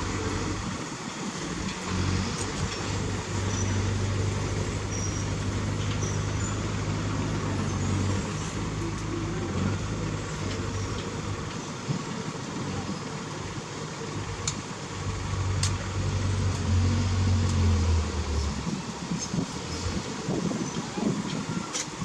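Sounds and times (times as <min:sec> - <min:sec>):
diesel machinery running: 0:00.0 - 0:22.0.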